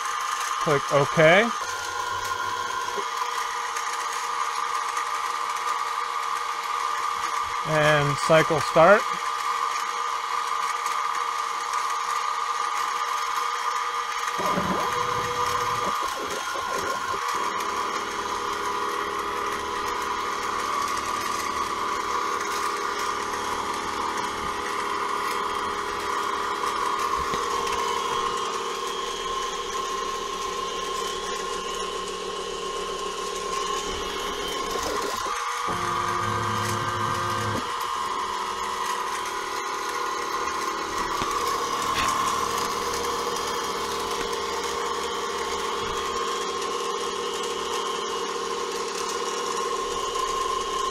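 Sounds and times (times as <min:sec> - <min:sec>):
spindle motor whining: 0:00.0 - 0:05.8, 0:14.1 - 0:50.9
stepper motor whir: 0:00.0 - 0:09.9, 0:13.1 - 0:50.9.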